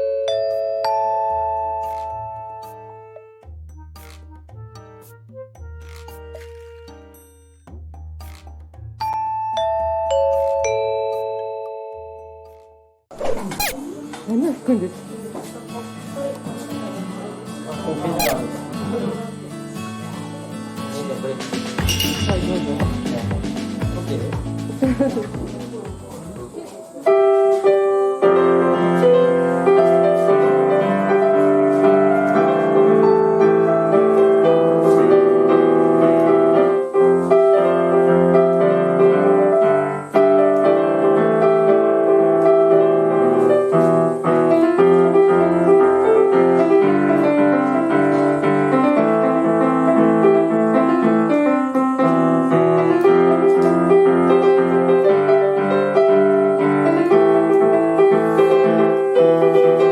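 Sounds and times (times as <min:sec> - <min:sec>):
piano piece: 0:00.0 - 0:07.4, 0:09.1 - 0:59.9.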